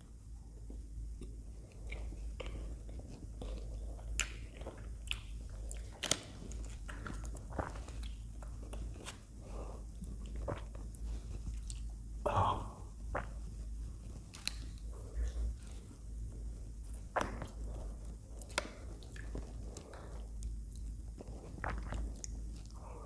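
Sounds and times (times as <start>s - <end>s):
chewing: 0.6s - 12.1s, 12.9s - 23.0s.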